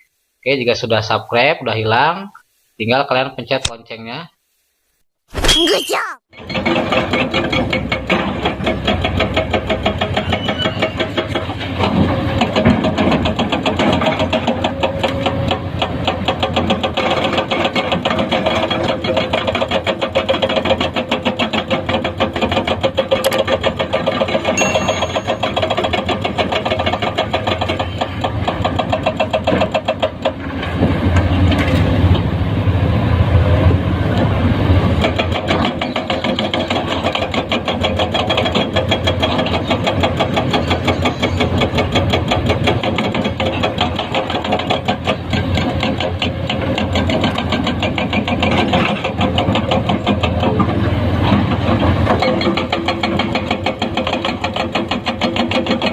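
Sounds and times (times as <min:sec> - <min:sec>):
excavator diesel engine running: 0:06.6 - 0:55.9.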